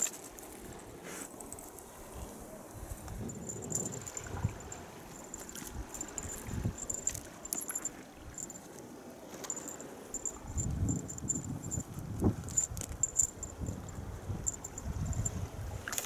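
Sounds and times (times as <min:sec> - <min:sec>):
wind rumbling on microphone: 0:00.5 - 0:08.7, 0:09.4 - 0:16.0.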